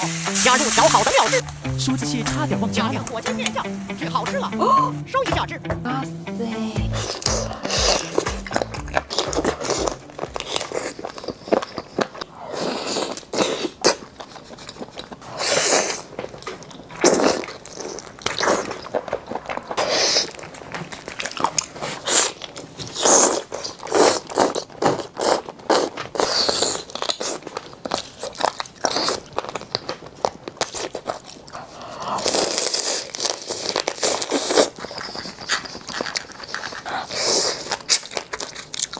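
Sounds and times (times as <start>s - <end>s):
chewing seafood: 6.6s - 38.9s.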